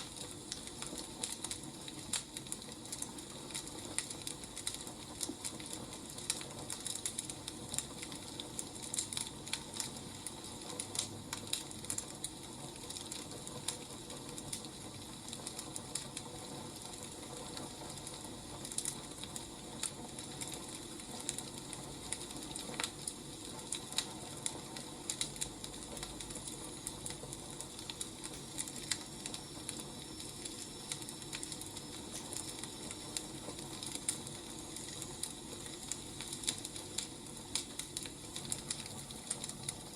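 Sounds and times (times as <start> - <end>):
fire pops and snaps: 0.0 - 39.9
firewood crackling: 0.0 - 39.9.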